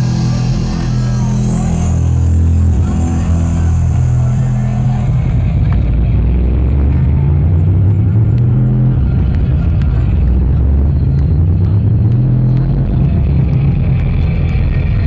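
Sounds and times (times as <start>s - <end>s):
deep bass synth tones: 0.0s - 15.0s.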